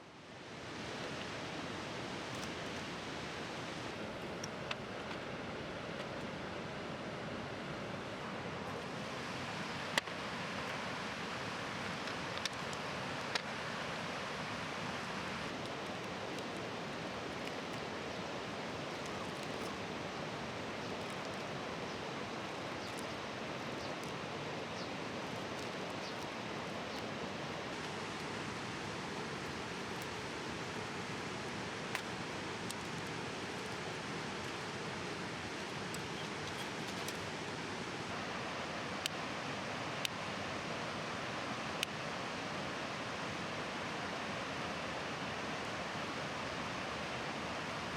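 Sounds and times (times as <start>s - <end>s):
bonfire hissing: 0.3s - 47.8s.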